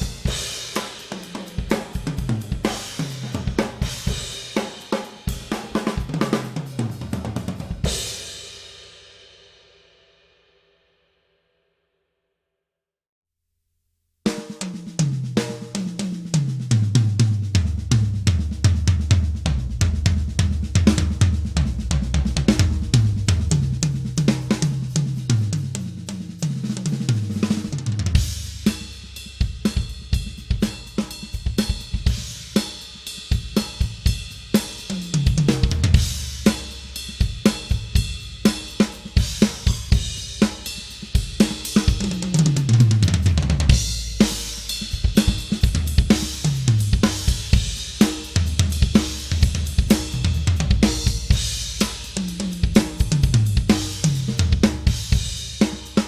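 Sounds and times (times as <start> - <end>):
drum kit playing: 0.0 - 9.0, 14.3 - 56.0.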